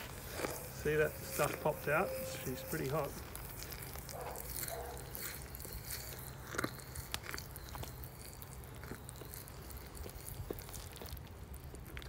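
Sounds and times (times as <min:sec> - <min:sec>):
low steady hum: 0:00.0 - 0:12.0
molten metal crackles and pops: 0:00.0 - 0:12.0.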